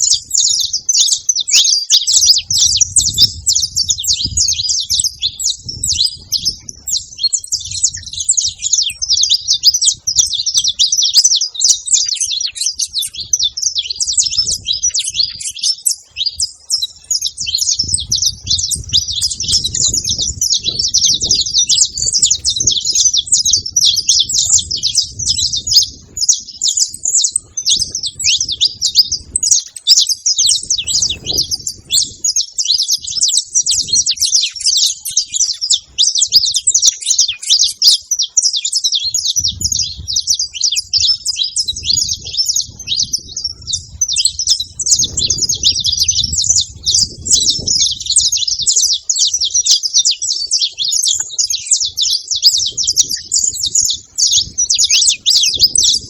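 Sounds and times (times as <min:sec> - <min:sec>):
finches chirping: 0:00.0 - 0:56.0.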